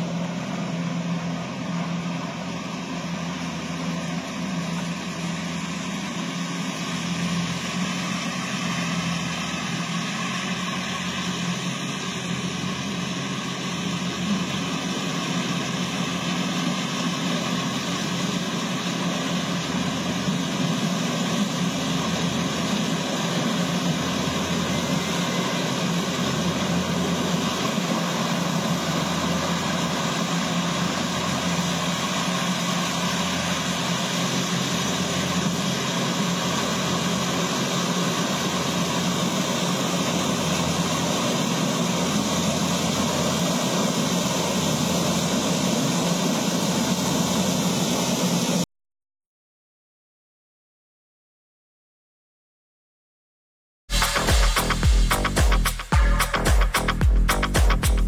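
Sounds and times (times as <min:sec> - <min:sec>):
combine harvester diesel engine: 0:00.0 - 0:48.6, 0:53.9 - 0:58.0.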